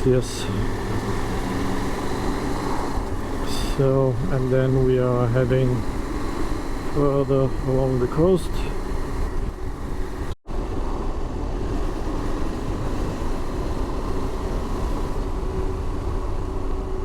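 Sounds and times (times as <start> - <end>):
motorcycle engine running: 0.0 - 17.0
wind rush: 0.0 - 17.0.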